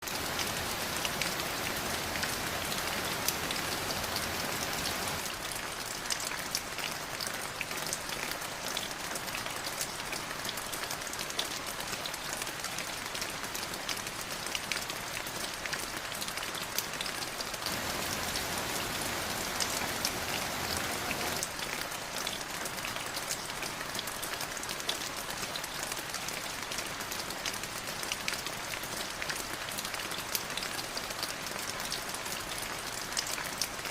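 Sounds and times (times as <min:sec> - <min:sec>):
rain drops pattering: 0:00.0 - 0:33.9.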